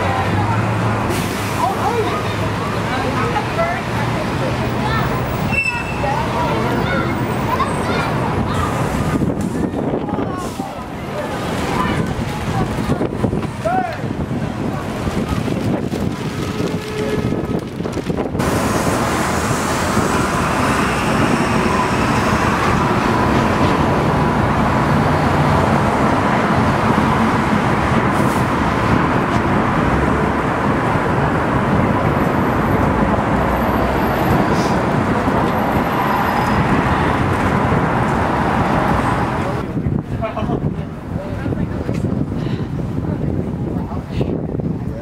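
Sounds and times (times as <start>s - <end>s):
passing cars: 0.0s - 45.0s.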